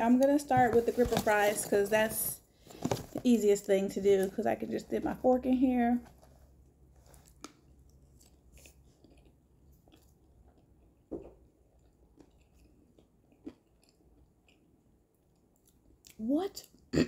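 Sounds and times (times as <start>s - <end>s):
faint chewing with soft crunches: 2.4s - 17.0s.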